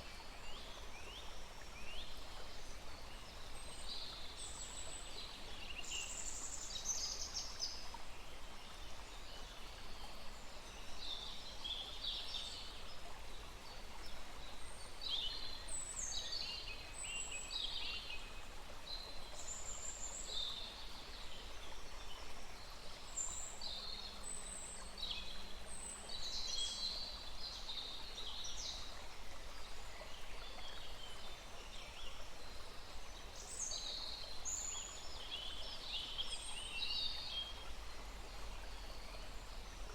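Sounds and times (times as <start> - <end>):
small stream rushing: 0.0 - 39.9.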